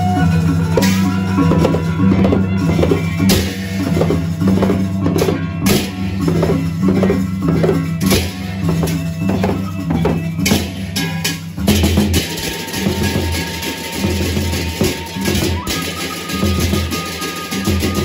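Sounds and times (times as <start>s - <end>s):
barrel drums beating: 0.0s - 18.0s
hand cymbals clashing: 0.0s - 18.0s.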